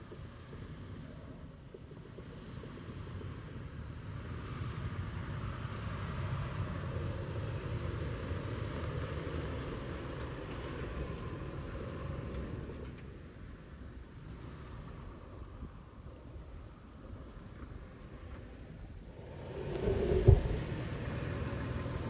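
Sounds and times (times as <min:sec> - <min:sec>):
suv engine running at low revs: 0:00.0 - 0:22.0.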